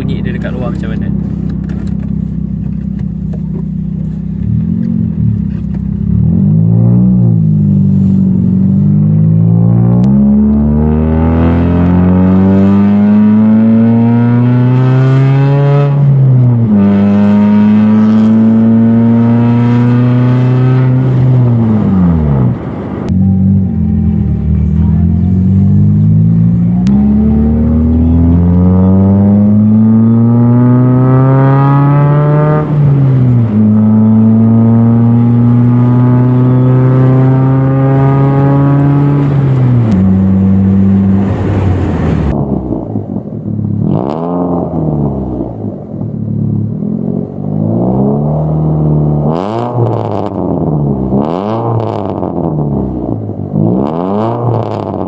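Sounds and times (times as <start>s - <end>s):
car engine revving: 0.0s - 55.0s
engine throttle blips: 0.0s - 55.0s.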